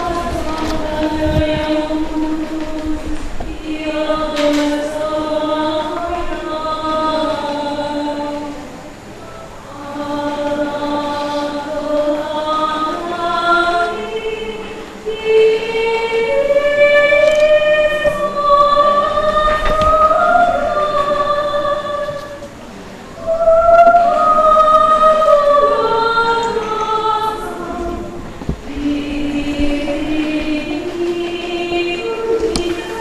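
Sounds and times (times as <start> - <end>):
woman singing into a microphone: 0.0 - 8.6, 9.7 - 22.5, 23.2 - 33.0.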